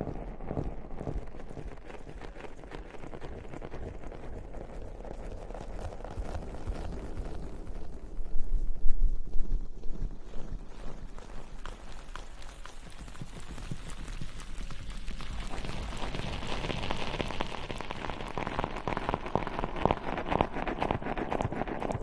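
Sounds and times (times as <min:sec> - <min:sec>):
asmr crackling and rustling: 0:00.0 - 0:22.0.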